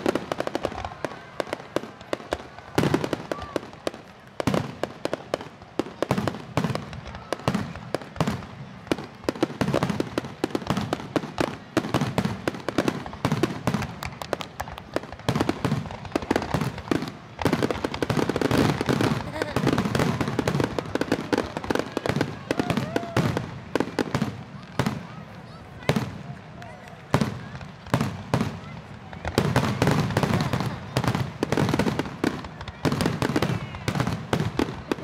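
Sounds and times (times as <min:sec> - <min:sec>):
fireworks bursting: 0:00.0 - 0:35.0
fireworks crackling: 0:00.0 - 0:35.0.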